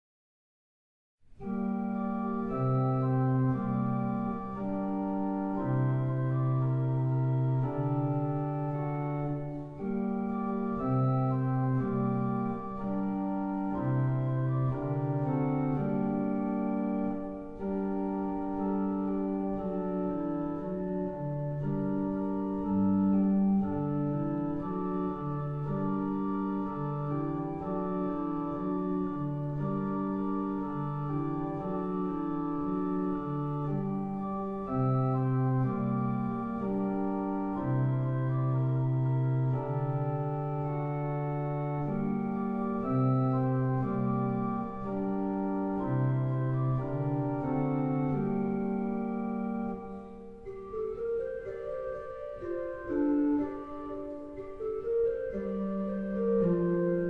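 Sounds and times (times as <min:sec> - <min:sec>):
church organ chords: 0:01.4 - 0:57.0.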